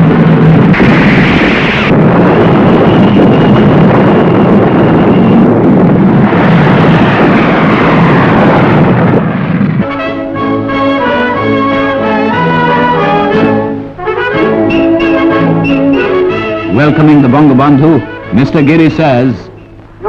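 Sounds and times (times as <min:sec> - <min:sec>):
aircraft engines roaring: 0:00.0 - 0:20.0
faint steady whine: 0:00.0 - 0:20.0.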